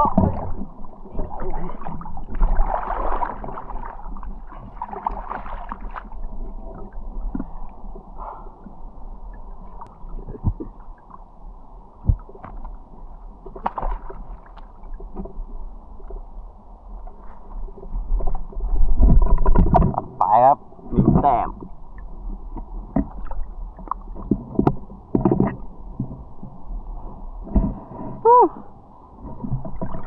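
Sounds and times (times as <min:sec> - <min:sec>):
muffled underwater sloshing: 0:00.0 - 0:30.0.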